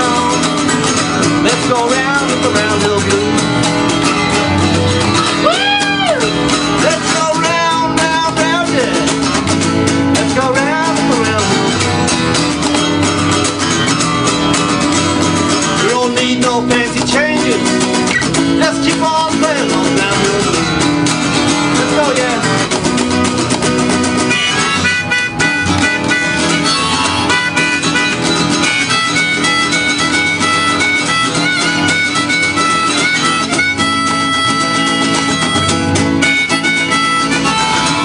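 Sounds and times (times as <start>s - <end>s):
guitar playing blues: 0.0s - 38.0s
harmonica playing blues: 0.0s - 38.0s.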